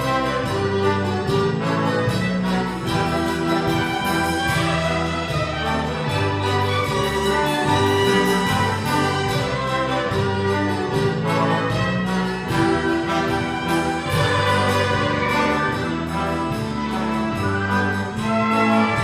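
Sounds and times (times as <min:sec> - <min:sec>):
symphony orchestra playing: 0:00.0 - 0:19.0.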